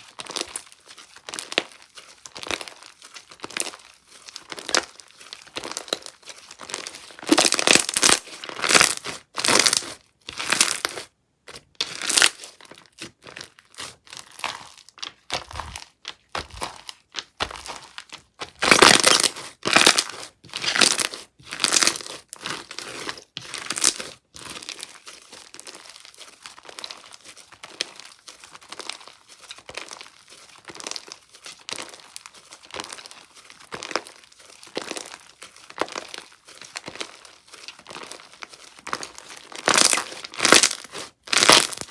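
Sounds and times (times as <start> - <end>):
slime crackling and popping: 0.0 - 11.1, 11.8 - 41.9.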